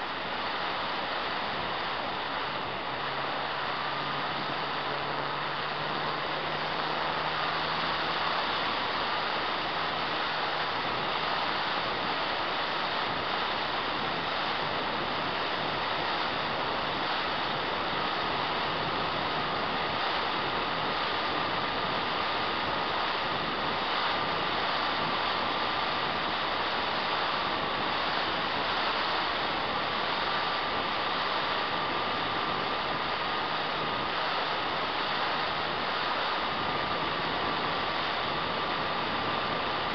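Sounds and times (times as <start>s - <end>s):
electric motor high whine: 0.0s - 39.9s
model plane propeller and wind rush: 0.0s - 39.9s.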